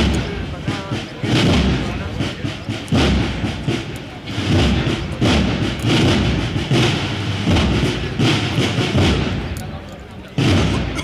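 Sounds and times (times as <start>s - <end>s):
cornet and drum band marching: 0.0s - 11.0s
heavy drum beats: 0.0s - 11.0s.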